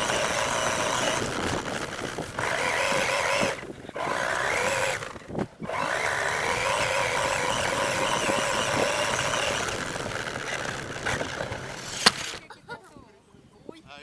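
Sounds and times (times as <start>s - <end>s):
toy truck motor running: 0.0s - 12.4s.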